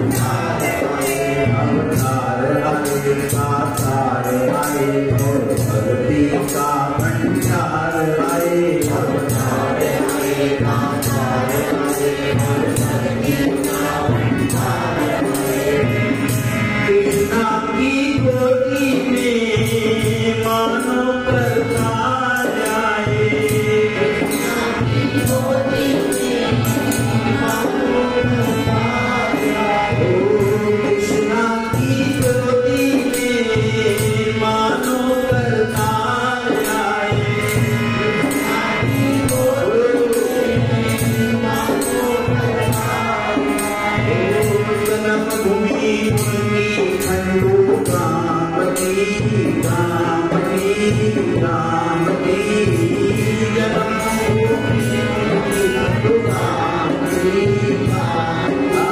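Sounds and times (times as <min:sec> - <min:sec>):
harmonium melody: 0:00.0 - 0:58.9
jingling percussion: 0:00.0 - 0:58.9.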